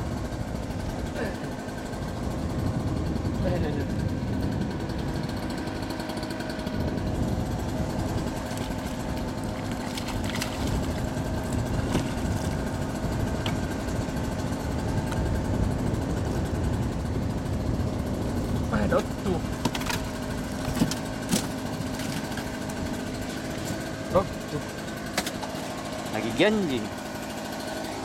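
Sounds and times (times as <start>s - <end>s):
boat engine idling: 0.0s - 28.0s.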